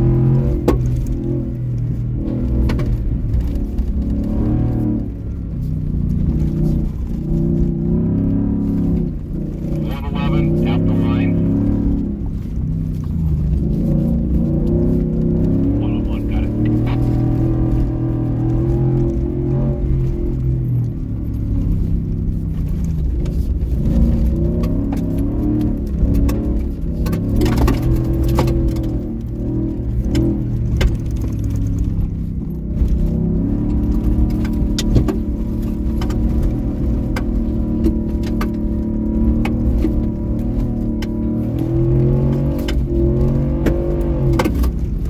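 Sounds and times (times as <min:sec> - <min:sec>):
truck engine revving: 0:00.0 - 0:05.3, 0:06.2 - 0:22.0, 0:23.0 - 0:45.0.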